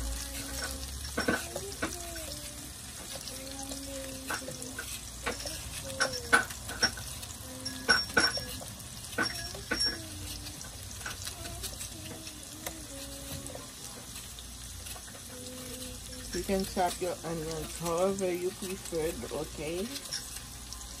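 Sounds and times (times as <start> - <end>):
oil sizzling hiss: 0.0 - 21.0.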